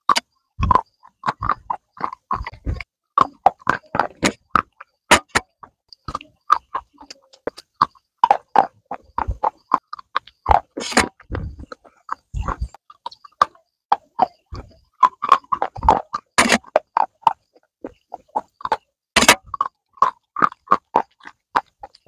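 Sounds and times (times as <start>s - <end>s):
crunching on brittle stick: 0.0s - 22.0s.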